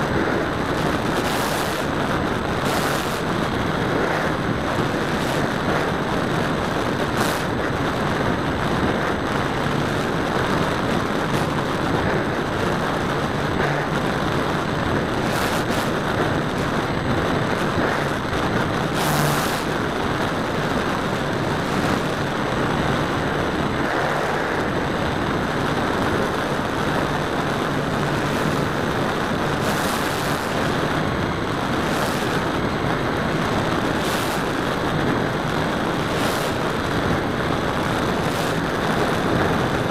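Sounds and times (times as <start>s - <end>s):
propeller drone: 0.0s - 39.9s
rush of air: 0.0s - 39.9s.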